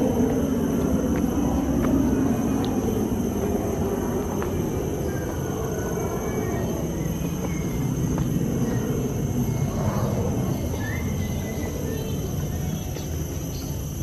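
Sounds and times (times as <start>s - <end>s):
high insect drone: 0.0s - 14.0s
low rumble on microphone: 0.0s - 14.0s.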